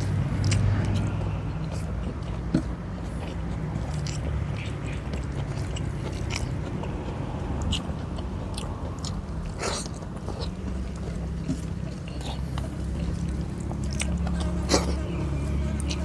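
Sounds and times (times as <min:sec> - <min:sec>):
man chewing food: 0:00.0 - 0:16.0.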